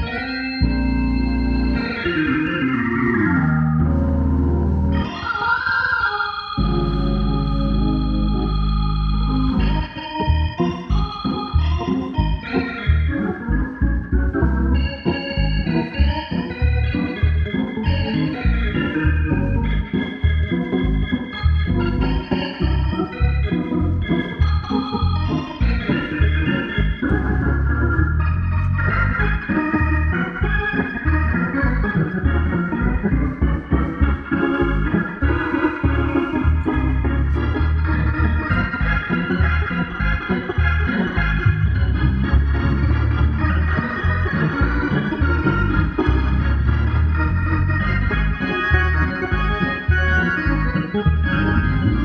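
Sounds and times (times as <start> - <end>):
pulsing organ bass line: 0.0 - 5.5, 6.1 - 52.0
organ playing gospel chords: 0.0 - 52.0.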